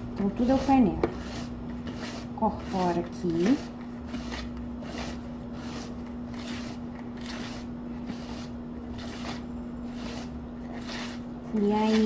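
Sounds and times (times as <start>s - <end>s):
whisk squishing thick batter: 0.0s - 12.0s.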